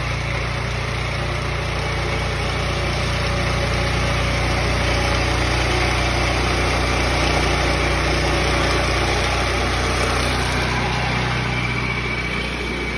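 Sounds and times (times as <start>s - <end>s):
sawmill gas engine under load: 0.0s - 12.9s.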